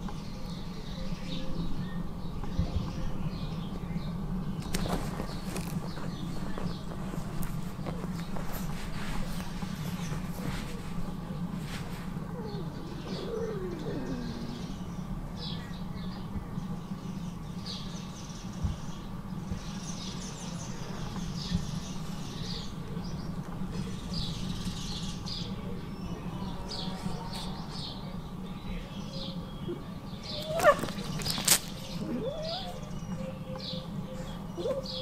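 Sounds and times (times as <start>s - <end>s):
small birds chirping: 0.0s - 35.0s
steady low hum: 0.0s - 35.0s.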